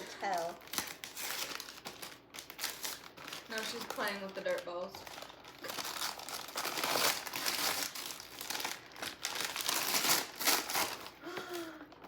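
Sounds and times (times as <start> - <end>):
wrapping paper tearing and crumpling: 0.0 - 12.0.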